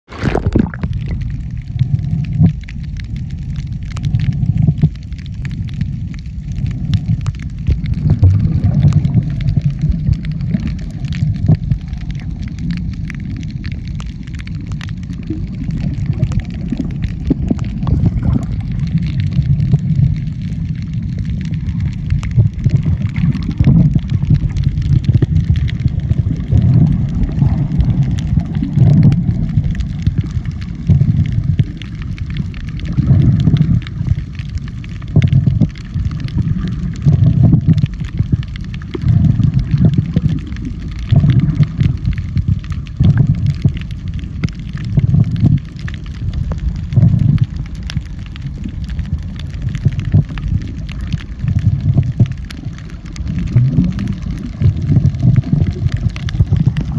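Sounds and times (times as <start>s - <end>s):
muffled underwater water rumble: 0.0s - 56.9s.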